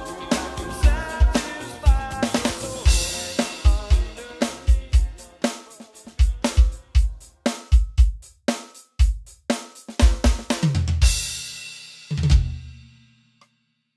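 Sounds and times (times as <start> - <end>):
electronic drum kit beat: 0.0 - 12.8.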